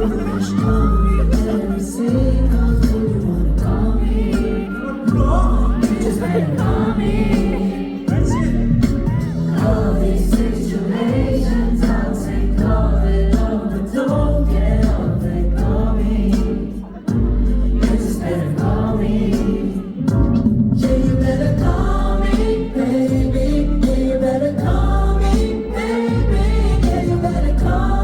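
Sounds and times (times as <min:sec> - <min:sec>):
pop song over sound system: 0:00.0 - 0:28.0.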